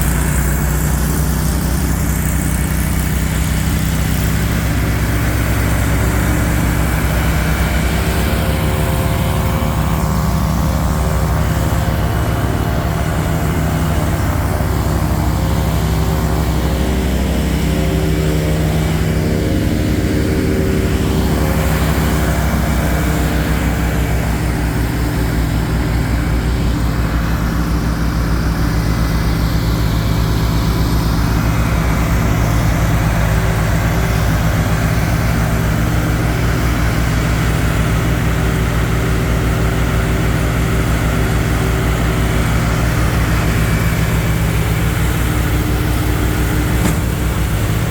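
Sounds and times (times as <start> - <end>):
snowblower working: 0.0 - 47.9
tractor diesel engine running: 0.0 - 47.9.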